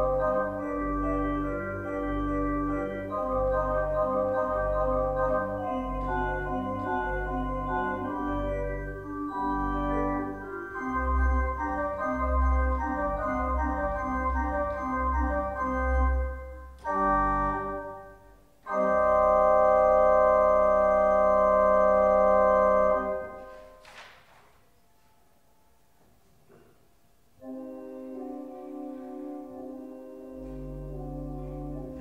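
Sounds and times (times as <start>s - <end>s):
organ playing chords: 0.0s - 23.8s, 27.1s - 32.0s.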